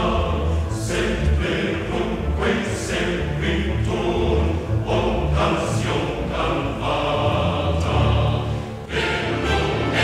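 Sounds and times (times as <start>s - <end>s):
choir singing: 0.0s - 10.0s.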